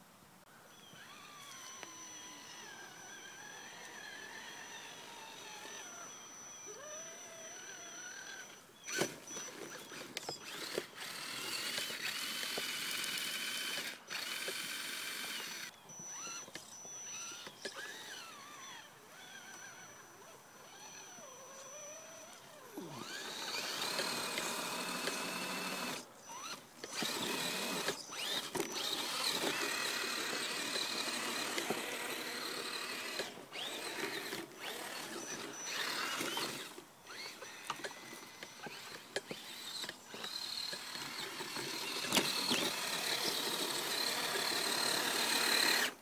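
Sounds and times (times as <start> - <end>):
toy car electric motor whining: 0.8 - 46.0.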